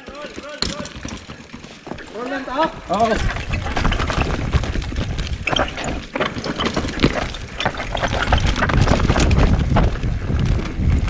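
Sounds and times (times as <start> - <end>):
bike rattling over rocks: 0.0 - 11.0
bike tyres rumbling on dirt: 0.0 - 11.0.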